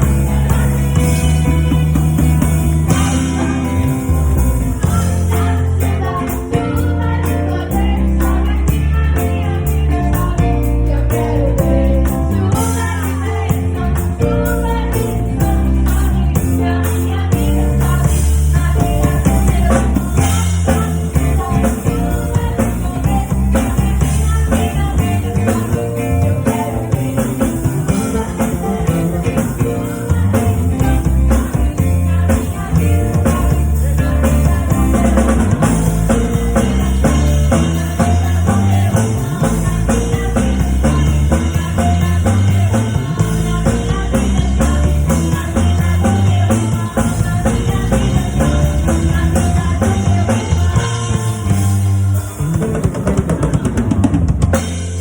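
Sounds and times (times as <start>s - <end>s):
drum kit playing: 0.0s - 55.0s
rock band music: 0.0s - 55.0s.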